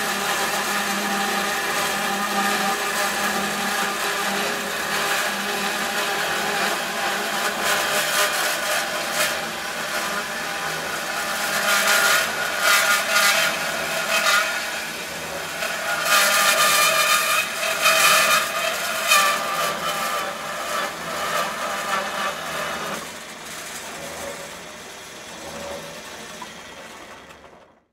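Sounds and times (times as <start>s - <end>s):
band saw cutting metal: 0.0s - 27.7s.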